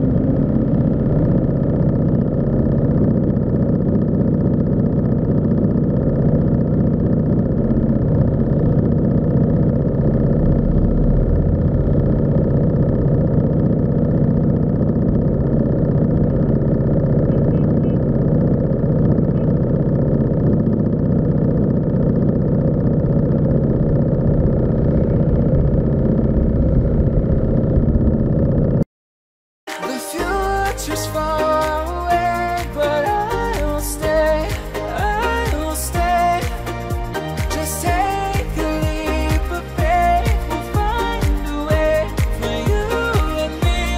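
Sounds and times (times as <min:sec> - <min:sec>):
vehicle engine idling: 0:00.0 - 0:28.8, 0:30.2 - 0:43.9.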